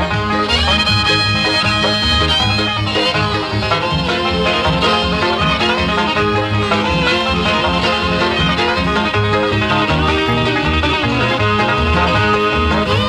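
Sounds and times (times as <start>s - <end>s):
banjo: 0.0s - 13.0s
guitar: 0.0s - 13.0s.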